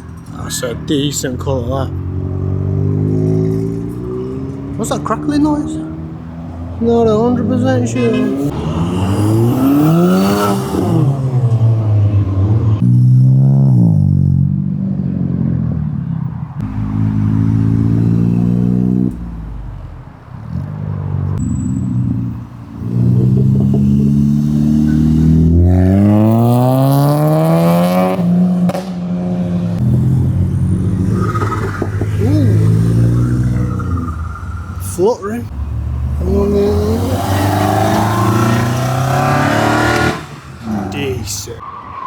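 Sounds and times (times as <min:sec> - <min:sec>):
car engines idling and revving: 0:00.0 - 0:42.0
cars rolling past: 0:00.0 - 0:42.0.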